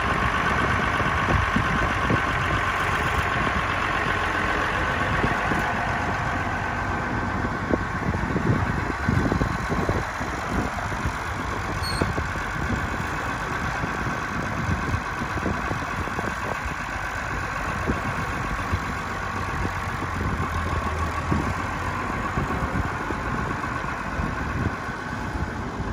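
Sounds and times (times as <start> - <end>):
tractor engine running slowly: 0.0 - 25.9.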